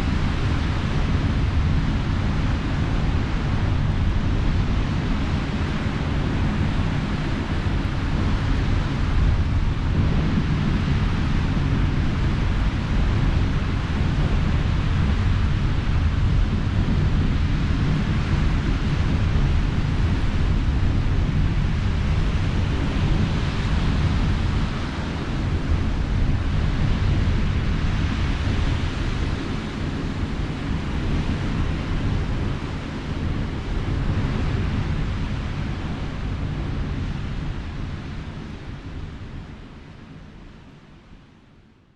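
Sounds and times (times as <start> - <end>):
wind rumbling on microphone: 0.0 - 41.2.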